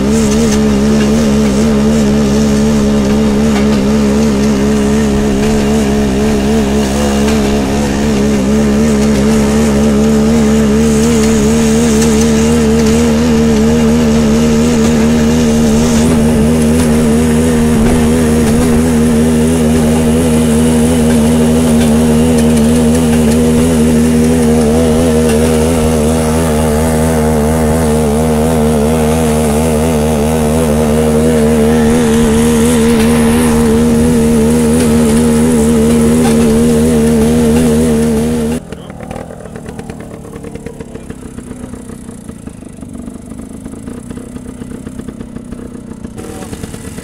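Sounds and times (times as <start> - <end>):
rail trolley engine running: 0.0 - 47.0.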